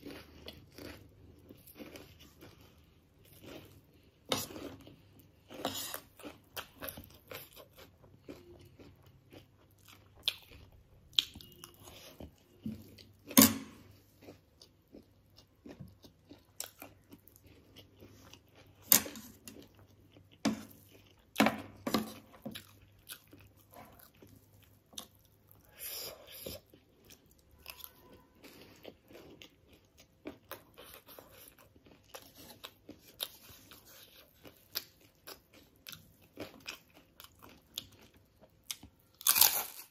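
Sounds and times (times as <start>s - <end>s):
crunching and chewing snacks: 0.0s - 39.9s.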